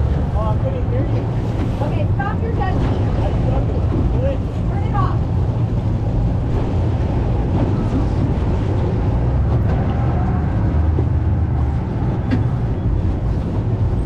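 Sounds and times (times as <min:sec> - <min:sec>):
motorboat engine rumble: 0:00.0 - 0:14.0
water washing against hull: 0:00.0 - 0:14.0.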